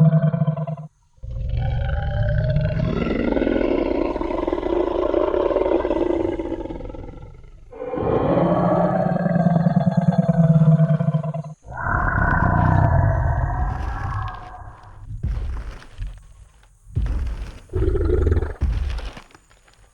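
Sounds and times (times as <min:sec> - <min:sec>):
deep dinosaur roar: 0:00.0 - 0:15.8, 0:17.0 - 0:19.2.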